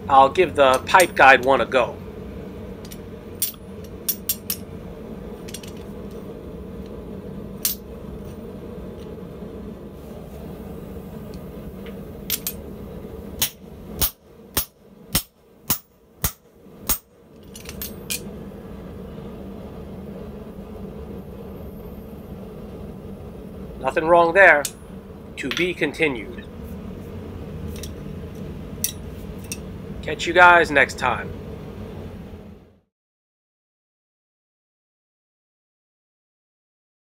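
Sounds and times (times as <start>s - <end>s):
steady hum: 0.0s - 32.9s.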